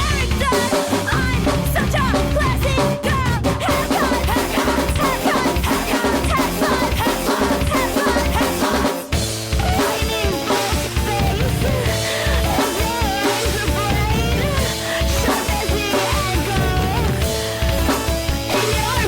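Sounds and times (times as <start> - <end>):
drum kit: 0.0 - 19.0
loud punk band music: 0.0 - 19.0.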